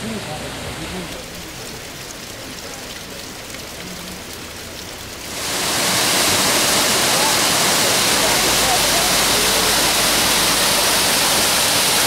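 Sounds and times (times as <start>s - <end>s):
waterfall rushing: 0.0s - 12.0s
water trickling down rock: 1.0s - 12.0s.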